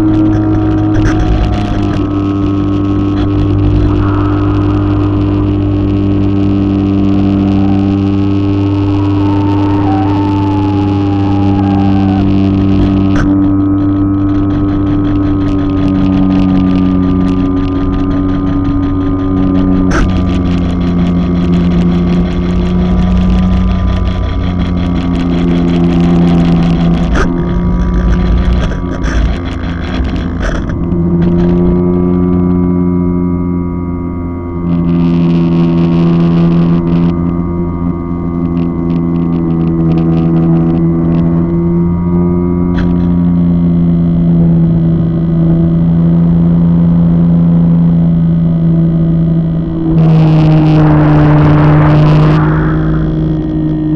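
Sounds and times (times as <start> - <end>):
wind noise: 0.0 - 33.5, 34.4 - 53.9
model airplane motor and propeller: 0.0 - 53.9.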